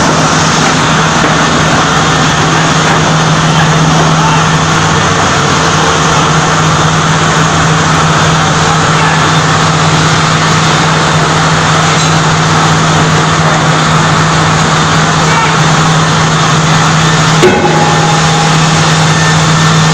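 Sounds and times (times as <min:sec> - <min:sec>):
rip saw machine running: 0:00.0 - 0:19.9.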